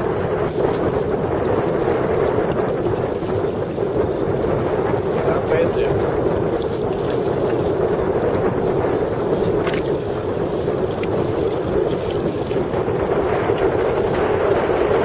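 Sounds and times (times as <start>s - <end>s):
water rushing along hull: 0.0s - 15.0s.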